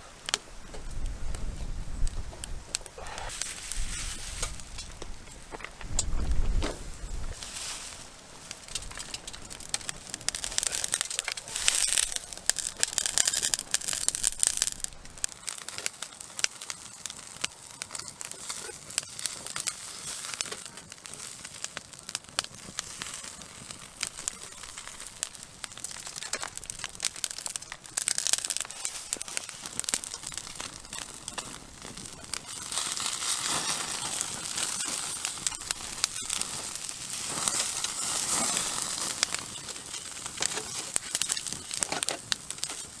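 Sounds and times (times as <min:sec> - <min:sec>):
campfire crackling and popping: 0:00.0 - 0:43.0
fish sizzling on grill: 0:00.0 - 0:43.0.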